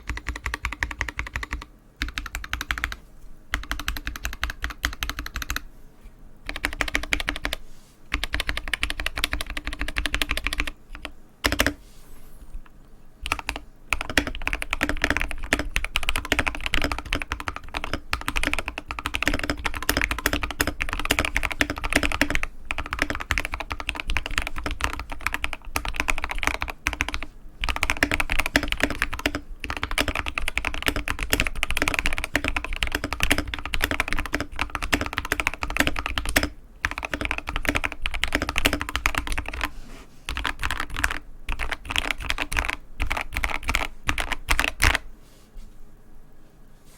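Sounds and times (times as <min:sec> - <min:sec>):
fast mechanical keyboard typing: 0:00.0 - 0:05.6, 0:06.5 - 0:11.8, 0:13.2 - 0:39.7, 0:40.3 - 0:45.0.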